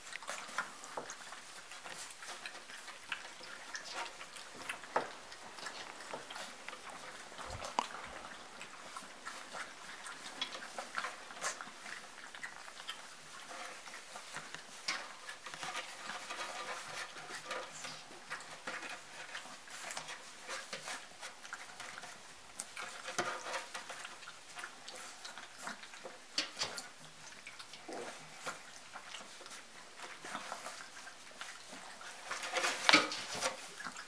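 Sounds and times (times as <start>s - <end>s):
puppies clicking and rustling: 0.0s - 34.0s.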